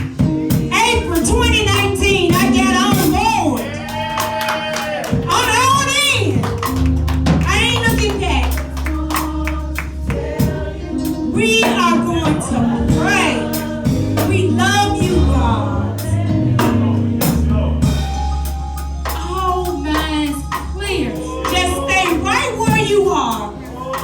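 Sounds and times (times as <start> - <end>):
singing with drums and bass: 0.0 - 24.0.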